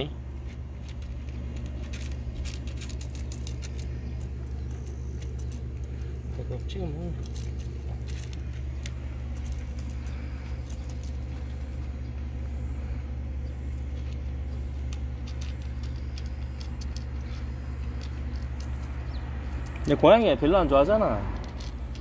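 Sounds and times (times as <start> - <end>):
steady low hum: 0.0 - 22.0
cat crunching dry kibble: 0.1 - 20.0, 21.3 - 22.0.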